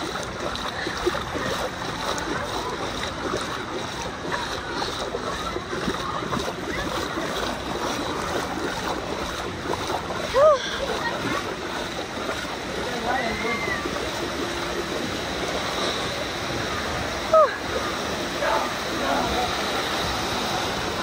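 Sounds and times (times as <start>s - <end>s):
faint voices: 0.0s - 21.0s
water rushing down waterslide: 0.0s - 21.0s.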